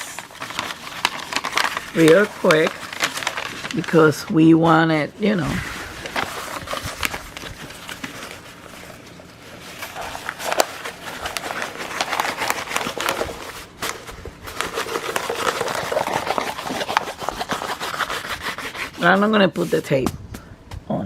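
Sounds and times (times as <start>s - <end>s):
canvas packaging rustling: 0.0s - 19.9s.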